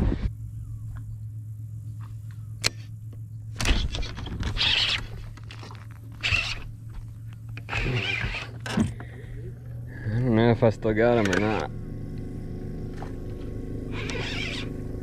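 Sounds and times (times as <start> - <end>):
electric motor humming: 2.7 - 15.0.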